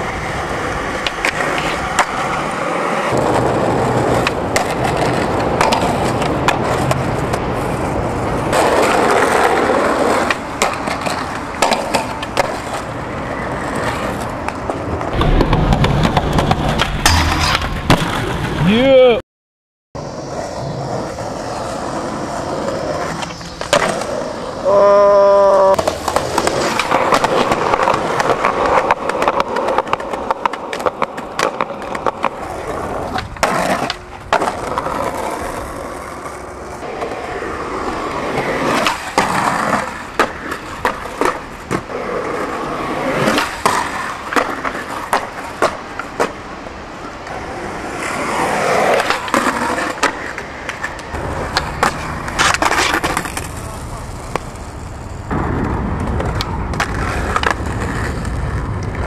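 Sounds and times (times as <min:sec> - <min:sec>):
skateboard tail clacks and landings: 0:00.0 - 0:18.7, 0:20.2 - 0:24.7, 0:25.8 - 0:59.0
skateboard wheels rolling on pavement: 0:00.0 - 0:19.2, 0:20.0 - 0:59.0.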